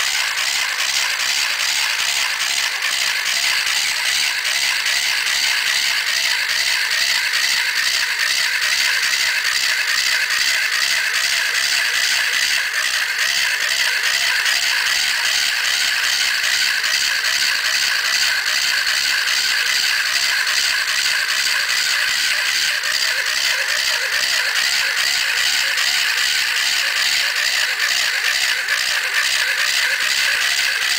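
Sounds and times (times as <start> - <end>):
small electric motor whine: 0.0 - 30.9
wooden track blocks rattling: 0.0 - 30.9.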